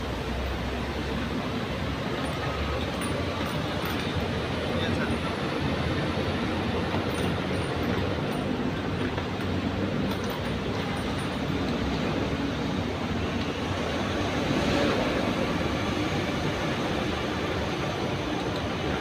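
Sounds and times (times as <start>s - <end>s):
mechanical rumble and hiss: 0.0s - 19.0s.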